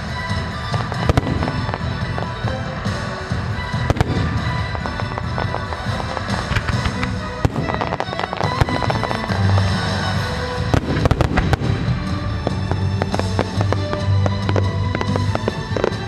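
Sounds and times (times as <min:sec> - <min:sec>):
fireworks bursting and crackling: 0:00.0 - 0:16.0
music: 0:00.0 - 0:16.0.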